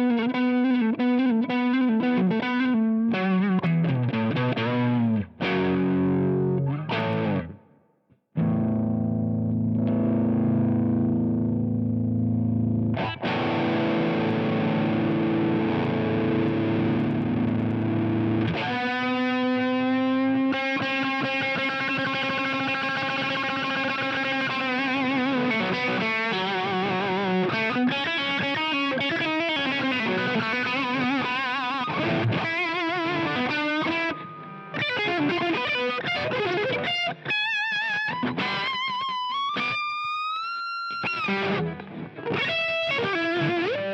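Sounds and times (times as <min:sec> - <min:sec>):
distorted electric guitar: 0:00.0 - 0:07.7, 0:08.4 - 0:43.9.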